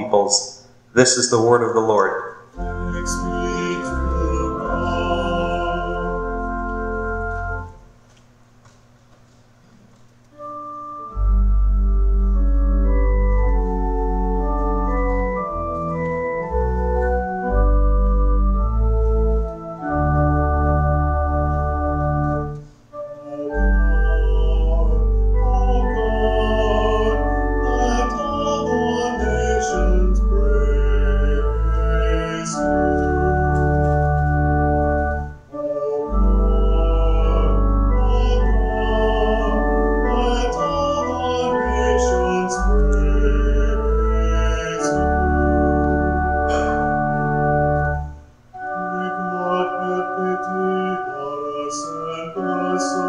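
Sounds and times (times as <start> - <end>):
church organ playing chords: 0.0 - 8.1, 10.2 - 53.0.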